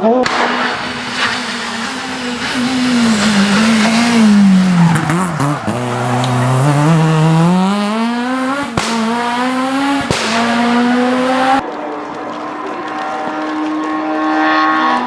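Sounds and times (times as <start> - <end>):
sharp cracks: 0.0 - 6.6, 8.2 - 15.0
rally car engine accelerating: 0.0 - 15.0
rally car engine steady note: 0.3 - 15.0.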